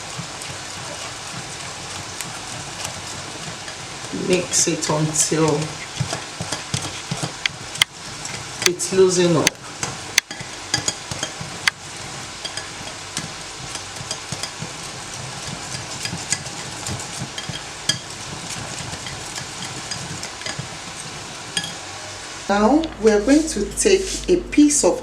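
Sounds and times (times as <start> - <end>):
wet swishing of stirred batter: 0.0 - 21.7.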